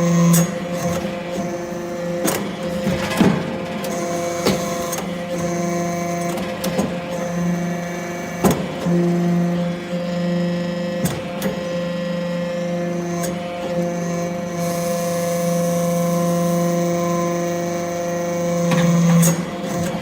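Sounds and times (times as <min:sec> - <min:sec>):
hydraulic press humming: 0:00.0 - 0:20.0.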